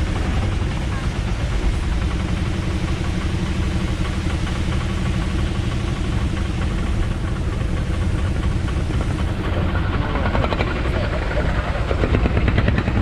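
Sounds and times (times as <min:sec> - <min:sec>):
auto-rickshaw engine running: 0:00.0 - 0:13.0.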